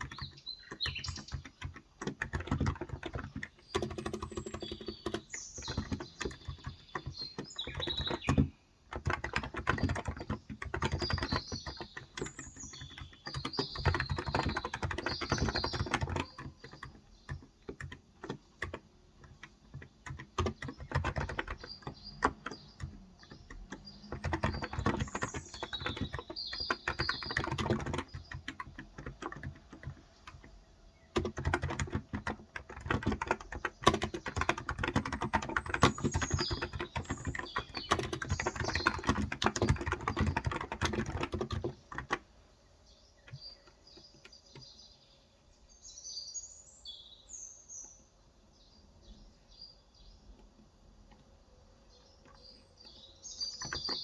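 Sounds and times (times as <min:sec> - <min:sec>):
birds chirping faintly: 0:00.0 - 0:54.0.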